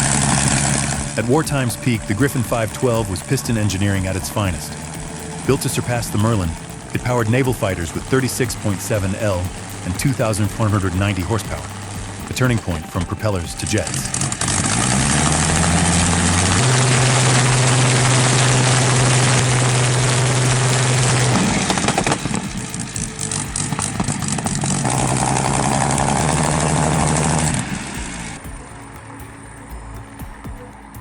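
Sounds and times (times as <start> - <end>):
aero engine running loudly: 0.0 - 28.5.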